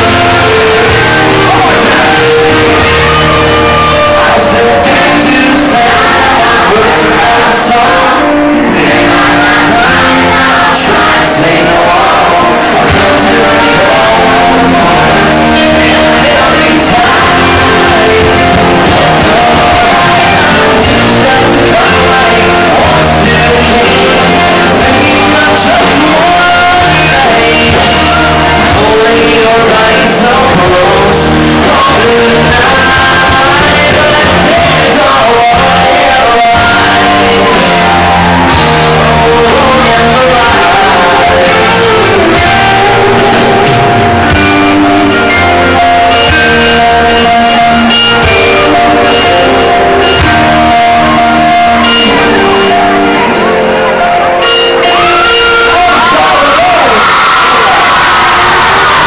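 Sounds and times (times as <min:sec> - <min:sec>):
bass guitar: 0:00.0 - 0:59.0
drums: 0:00.0 - 0:59.0
electric guitar: 0:00.0 - 0:59.0
man singing: 0:00.0 - 0:59.0.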